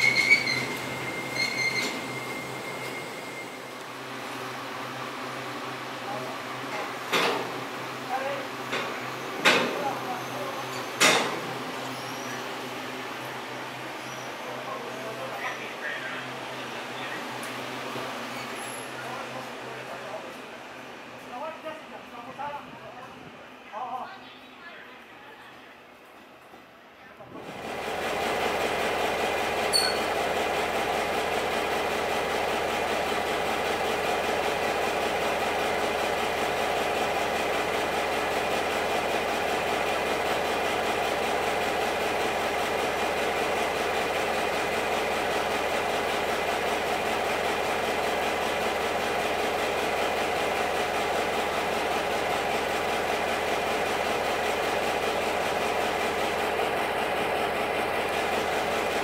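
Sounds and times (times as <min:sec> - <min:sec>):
train engine idling: 0:00.0 - 0:26.9, 0:27.7 - 0:59.0.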